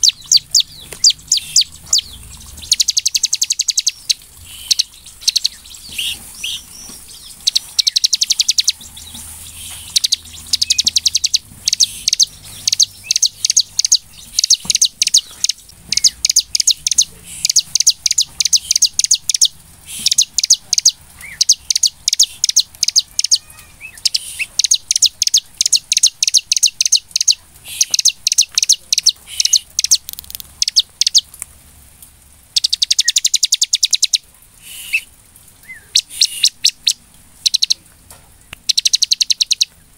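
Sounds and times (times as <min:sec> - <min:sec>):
bird singing high trills: 0:00.0 - 0:30.0, 0:32.6 - 0:37.8, 0:38.7 - 0:39.7.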